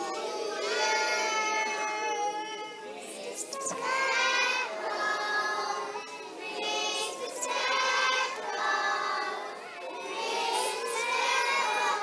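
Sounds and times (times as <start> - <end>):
children singing in unison: 0.0 - 12.0.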